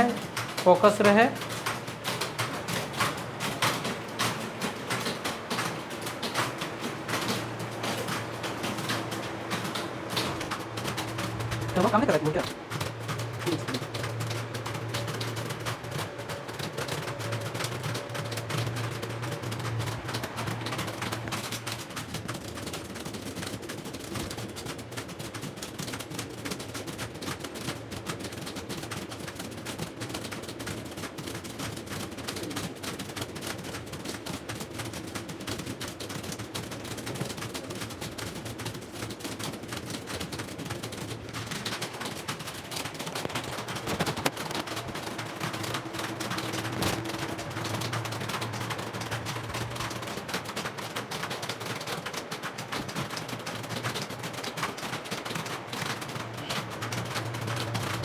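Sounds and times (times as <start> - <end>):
keyboards clattering: 0.0 - 58.0.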